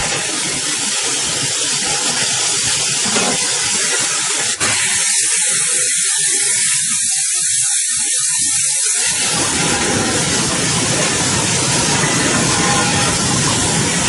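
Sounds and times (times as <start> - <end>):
loud hissing noise: 0.0 - 14.0.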